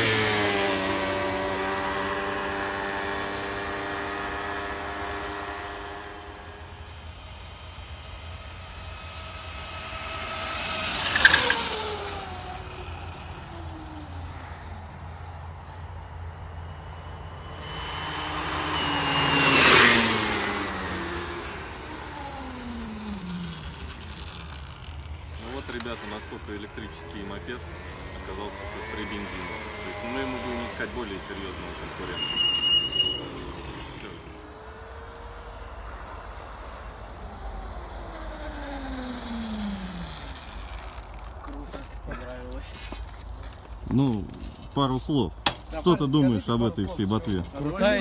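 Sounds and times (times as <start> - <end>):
motorcycles passing by: 0.0 - 48.0.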